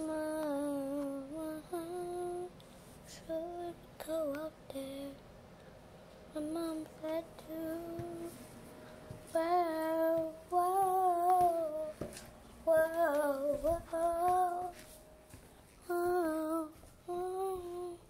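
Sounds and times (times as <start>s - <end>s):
girl singing held notes: 0.0s - 5.2s, 6.3s - 15.0s, 15.8s - 18.0s.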